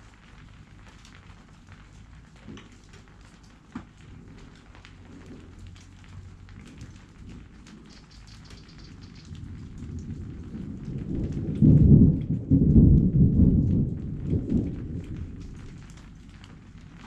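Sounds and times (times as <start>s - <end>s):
rain falling: 0.0s - 17.0s
raindrop ticks: 0.0s - 17.0s
thunder rumbling: 0.0s - 17.0s.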